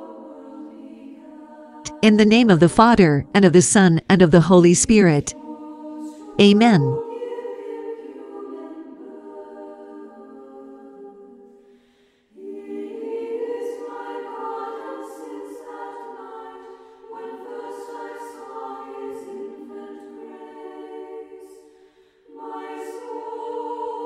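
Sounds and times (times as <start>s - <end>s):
choir singing sustained phrases: 0.0s - 3.3s, 5.2s - 24.0s.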